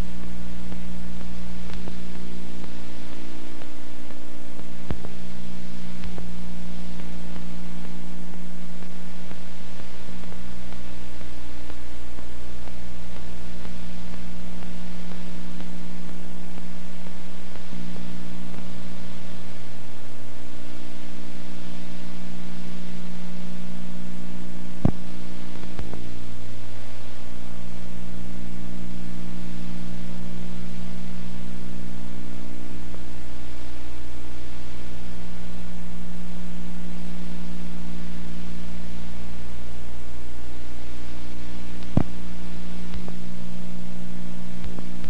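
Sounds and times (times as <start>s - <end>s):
electrical hum: 0.0s - 45.0s
tape hiss: 0.0s - 45.0s.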